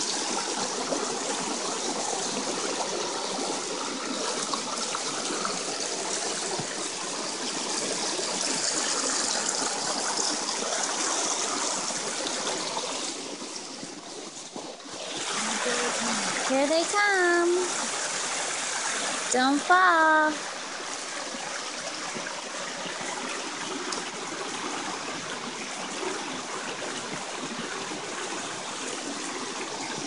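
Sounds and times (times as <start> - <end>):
stream trickling over rocks: 0.0 - 30.0.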